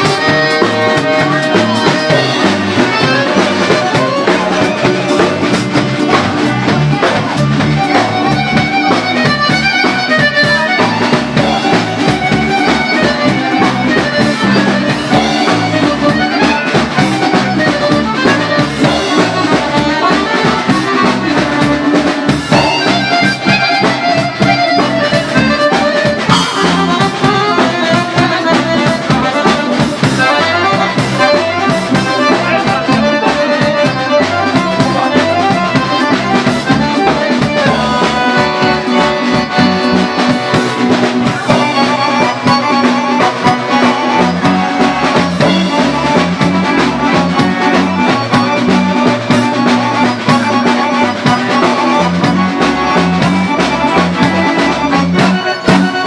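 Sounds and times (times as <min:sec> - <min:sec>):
accordion playing a tune: 0:00.0 - 0:56.0.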